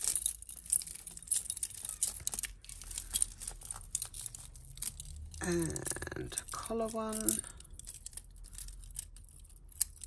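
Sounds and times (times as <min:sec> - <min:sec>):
jewellery chains and beads clinking: 0:00.0 - 0:10.0.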